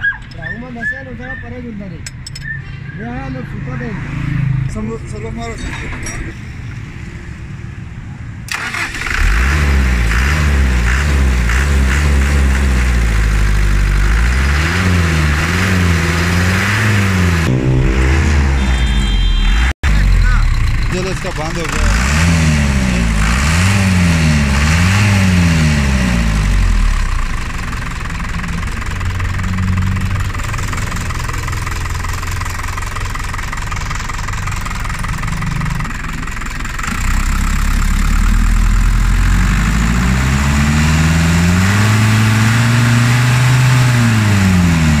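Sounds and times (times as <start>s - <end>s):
diesel engine revving: 8.5s - 45.0s.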